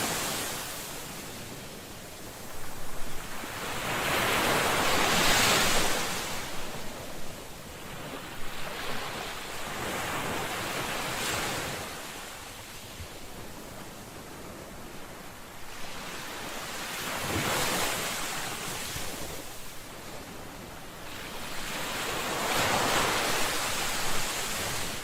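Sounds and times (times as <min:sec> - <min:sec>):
ocean waves washing ashore: 0:00.0 - 0:25.0.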